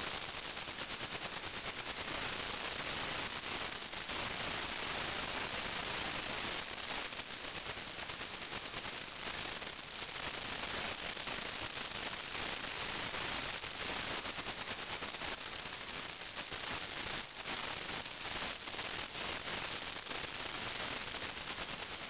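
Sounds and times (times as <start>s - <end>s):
crackling static hiss: 0.0s - 22.0s.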